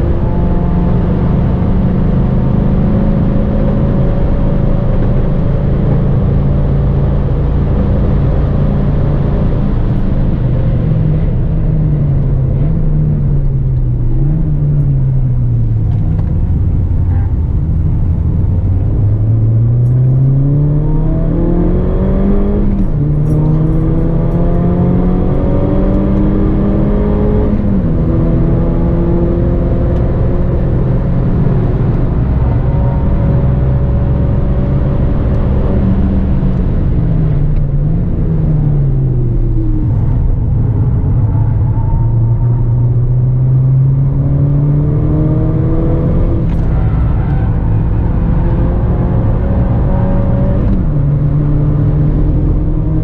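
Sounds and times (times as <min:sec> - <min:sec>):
car engine revving: 0:00.0 - 0:53.0
road noise: 0:00.0 - 0:53.0.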